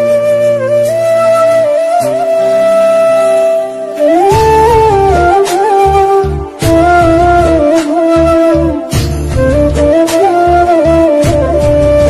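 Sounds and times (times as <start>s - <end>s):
flute holding long note: 0.0s - 12.0s
soft sustained accompaniment: 0.0s - 12.0s.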